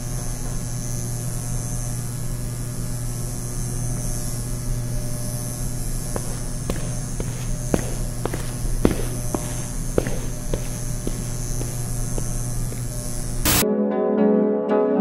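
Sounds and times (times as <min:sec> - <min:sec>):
fluorescent lights humming: 0:00.0 - 0:13.6.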